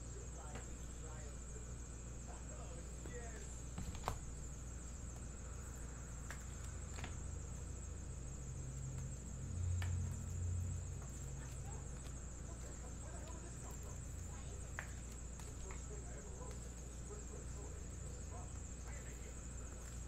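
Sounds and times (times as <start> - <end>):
faint high whine: 0.0 - 20.0
steady low hum: 0.0 - 20.0.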